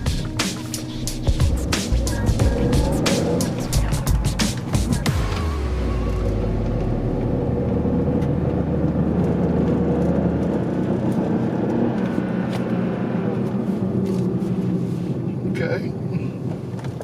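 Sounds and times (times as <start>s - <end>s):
car engine while driving: 0.0s - 17.0s
road noise: 0.0s - 17.0s
deep low rumble: 1.1s - 16.7s.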